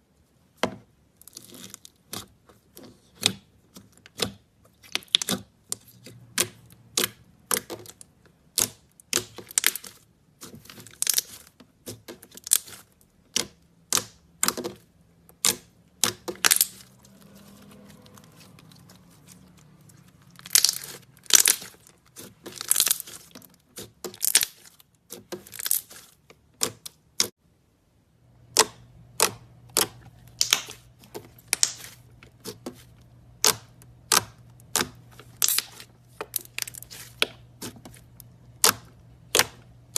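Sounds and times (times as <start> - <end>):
slime popping and crackling: 4.1 - 16.9, 18.6 - 27.3, 28.5 - 32.6, 33.3 - 39.9.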